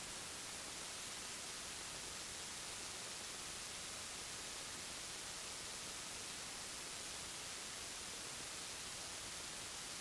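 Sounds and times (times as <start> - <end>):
steady recording hiss: 0.0 - 10.0.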